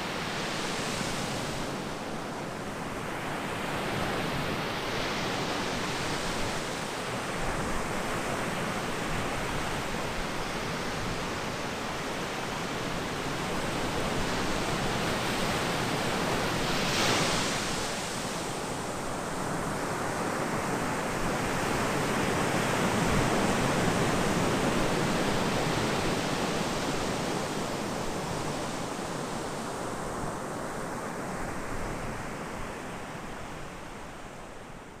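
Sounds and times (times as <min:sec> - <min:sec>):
ocean surf on a beach: 0:00.0 - 0:35.0.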